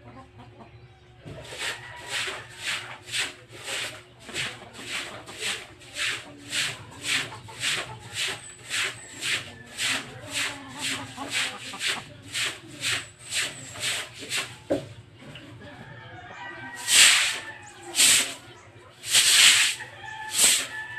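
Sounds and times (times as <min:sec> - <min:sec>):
brush scrubbing wet concrete: 0:01.2 - 0:15.0, 0:16.8 - 0:20.9.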